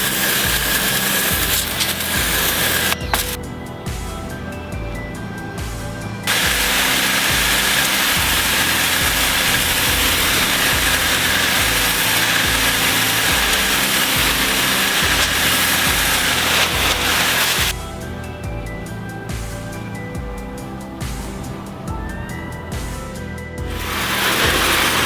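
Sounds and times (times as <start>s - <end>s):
background music with steady beat: 0.0s - 25.0s
pressure washer spraying: 0.0s - 25.0s.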